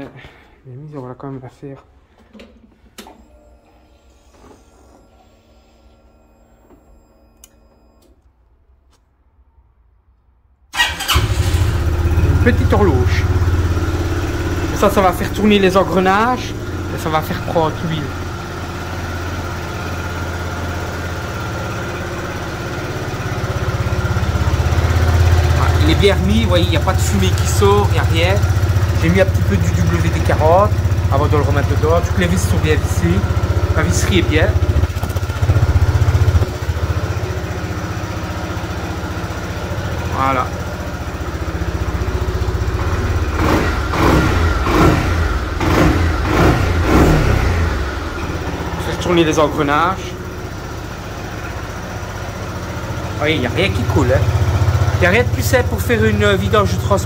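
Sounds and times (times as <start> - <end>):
scooter engine idling: 10.7 - 57.0.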